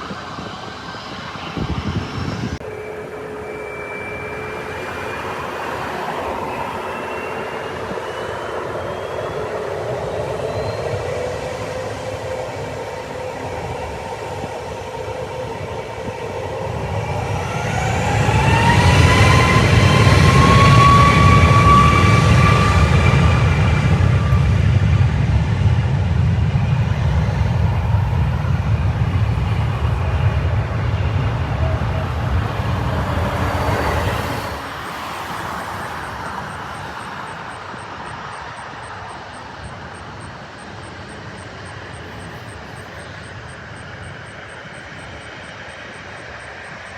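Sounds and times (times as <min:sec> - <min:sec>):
jet engine whine and rumble: 0:00.0 - 0:46.9.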